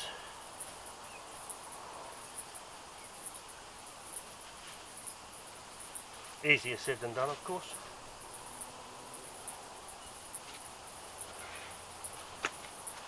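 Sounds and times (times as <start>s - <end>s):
faint background hiss: 0.0s - 13.0s
insect chirping: 0.0s - 13.0s.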